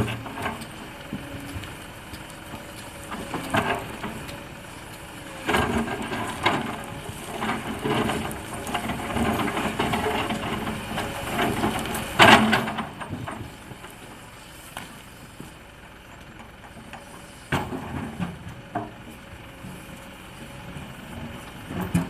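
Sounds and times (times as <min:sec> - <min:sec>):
excavator engine running: 0:00.0 - 0:22.0
excavator scraping and crunching rock: 0:00.0 - 0:22.0.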